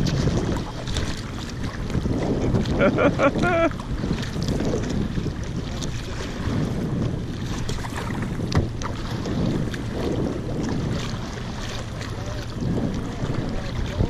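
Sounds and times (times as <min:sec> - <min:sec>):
kayak paddle splashing water: 0:00.0 - 0:14.0
wind buffeting microphone: 0:00.0 - 0:14.0.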